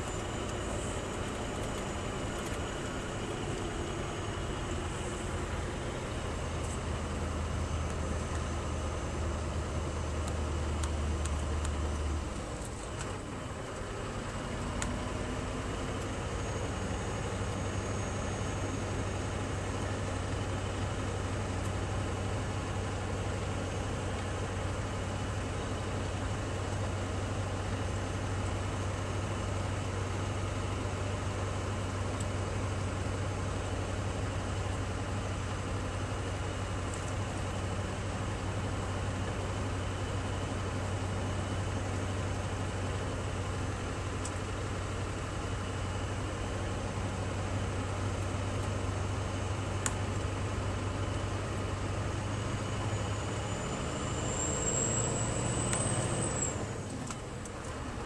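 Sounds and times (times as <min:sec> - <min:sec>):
diesel engine drone: 0:00.0 - 0:58.0
road noise: 0:00.0 - 0:58.0.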